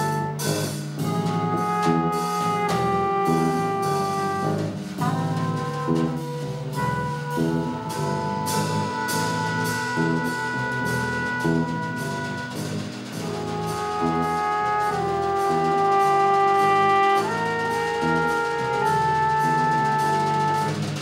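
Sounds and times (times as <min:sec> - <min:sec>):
short drum strikes: 0:00.0 - 0:21.0.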